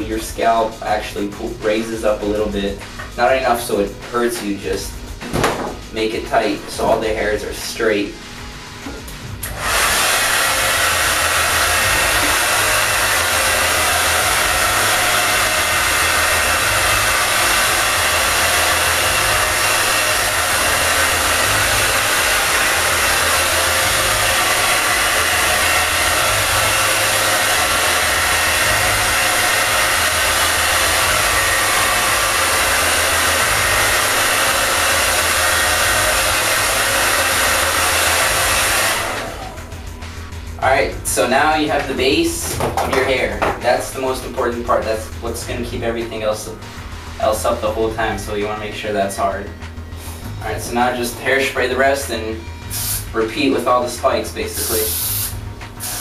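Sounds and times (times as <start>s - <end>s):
hair dryer running: 1.8s - 56.0s.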